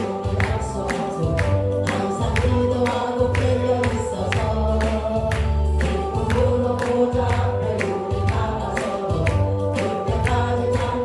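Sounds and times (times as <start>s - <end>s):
accompaniment with steady beat: 0.0s - 11.0s
congregation singing: 0.0s - 11.0s
woman singing into microphone: 0.0s - 11.0s.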